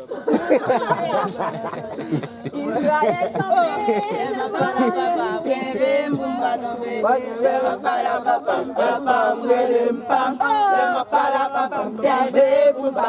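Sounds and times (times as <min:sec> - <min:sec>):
group of voices chanting: 0:00.6 - 0:13.0.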